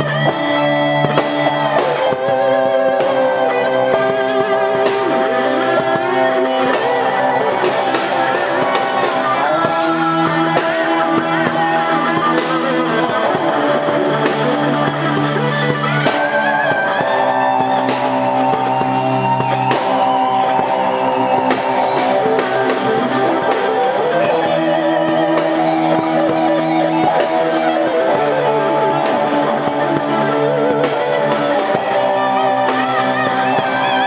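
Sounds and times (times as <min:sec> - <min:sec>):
bass notes: 0:00.0 - 0:34.0
electric guitars playing rock: 0:00.0 - 0:34.0
steady drum beat: 0:00.0 - 0:34.0.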